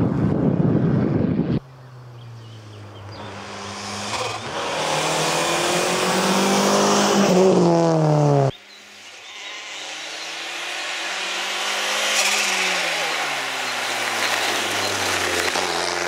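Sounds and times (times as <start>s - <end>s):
rally car engine revving: 2.2s - 16.0s.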